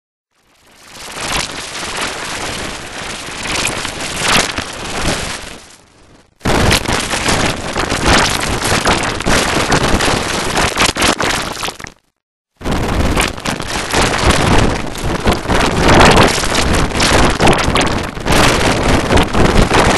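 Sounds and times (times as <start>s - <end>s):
harsh distorted noise: 1.0s - 5.4s, 6.2s - 12.0s, 12.6s - 19.9s.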